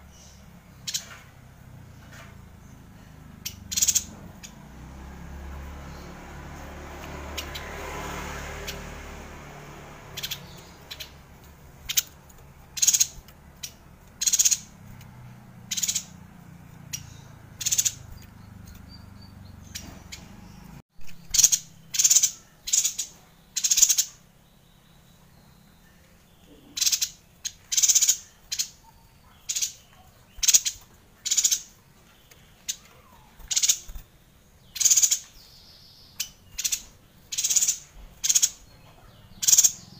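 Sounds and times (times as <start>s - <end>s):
bird chirping high-pitched: 0.0s - 39.9s.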